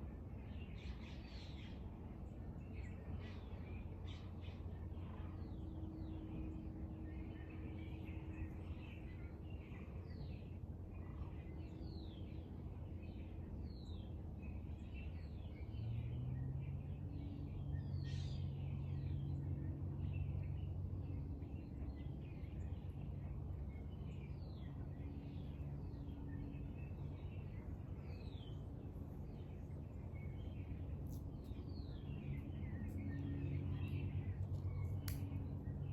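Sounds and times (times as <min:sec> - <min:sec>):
steady low hum: 0:00.0 - 0:35.9
small birds chirping: 0:00.4 - 0:35.9.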